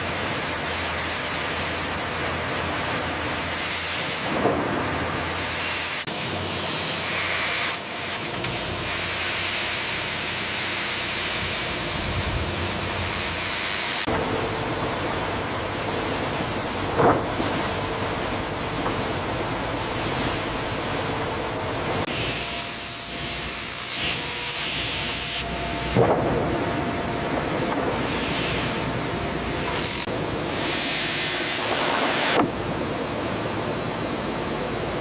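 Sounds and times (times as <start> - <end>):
sawmill machinery running: 0.0 - 35.0.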